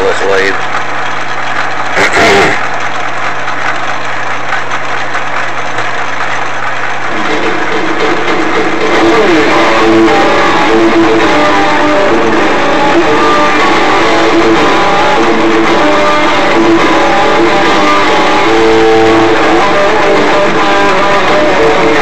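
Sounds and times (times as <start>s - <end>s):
guitar strummed and plucked: 0.0s - 22.0s.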